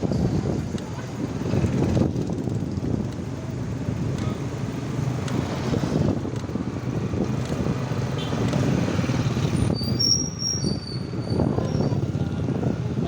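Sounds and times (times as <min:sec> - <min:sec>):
road traffic noise: 0:00.0 - 0:13.0
wind rumbling on microphone: 0:00.0 - 0:13.0.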